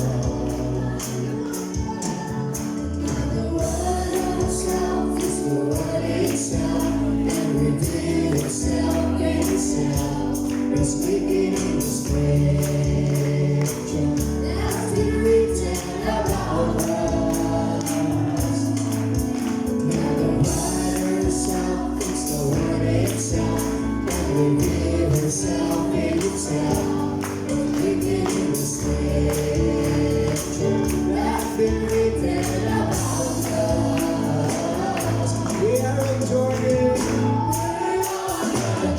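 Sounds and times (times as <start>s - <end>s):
band playing: 0.0s - 38.9s
choir singing gospel: 0.0s - 38.9s
tambourine beat: 0.0s - 38.9s.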